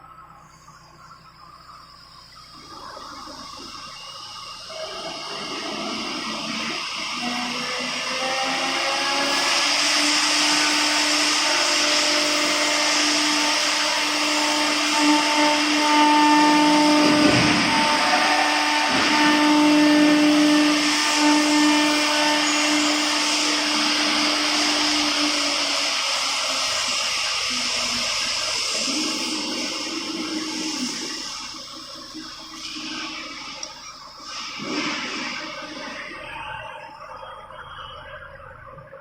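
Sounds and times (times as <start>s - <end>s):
router spindle whine: 0.0s - 39.0s
wood cutting hiss: 0.4s - 37.2s.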